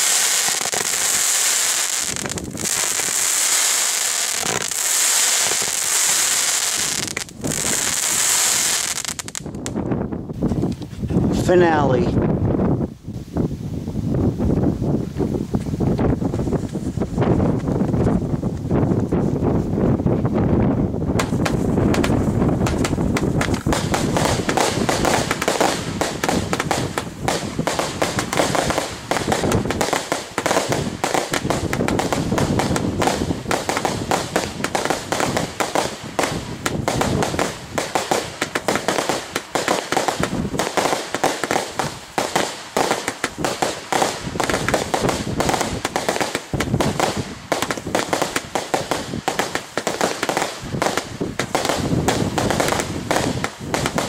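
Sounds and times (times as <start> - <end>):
fireworks crackling pops and bangs: 0.0 - 13.5, 14.2 - 54.0
heavy low fireworks booms: 0.0 - 54.0.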